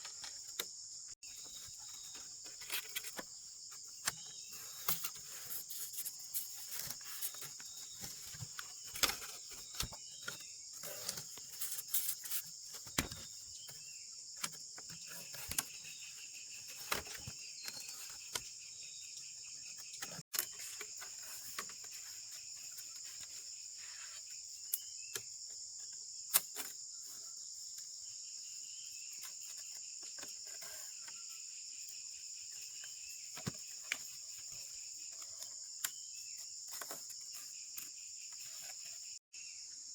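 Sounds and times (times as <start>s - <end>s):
cricket and insect chorus: 0.0s - 39.9s
lower insect trill: 0.0s - 39.9s.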